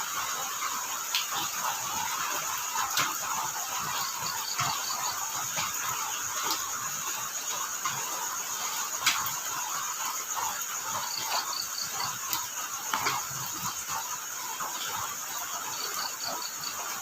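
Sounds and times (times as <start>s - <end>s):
crickets chirping: 0.0s - 17.0s
rain falling: 0.0s - 17.0s.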